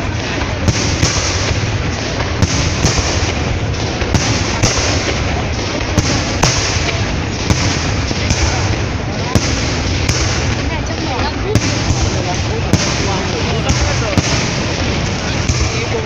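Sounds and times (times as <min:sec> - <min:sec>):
fireworks crackling and rumble: 0:00.0 - 0:16.0
fireworks shells bursting: 0:00.0 - 0:16.0.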